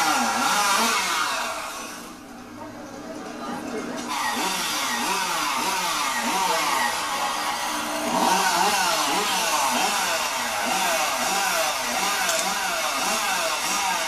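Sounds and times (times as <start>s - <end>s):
chainsaw running at high revs: 0.0s - 2.2s, 4.1s - 14.0s.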